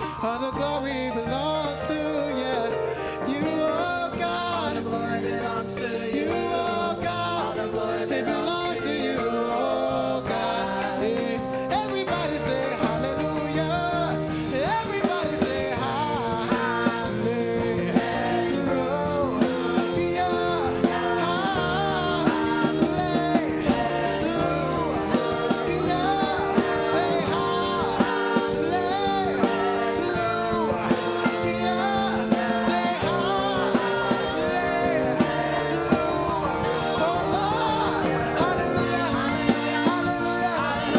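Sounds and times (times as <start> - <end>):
band with guitar: 0.0 - 40.9
person singing gospel: 0.0 - 40.9.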